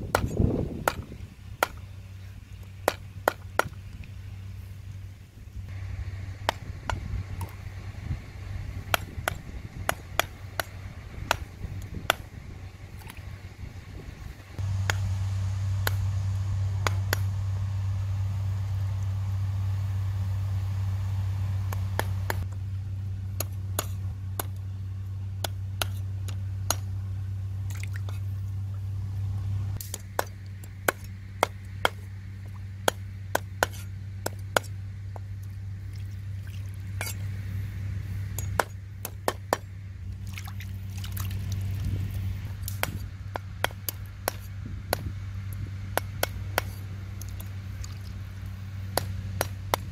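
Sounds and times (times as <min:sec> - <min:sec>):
low hum: 0:00.0 - 0:49.9.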